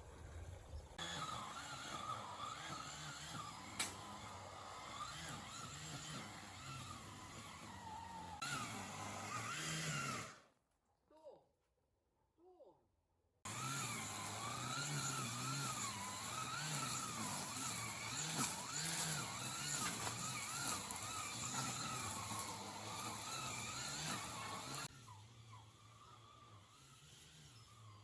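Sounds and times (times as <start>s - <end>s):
motor running: 0.0s - 10.4s, 13.5s - 28.0s.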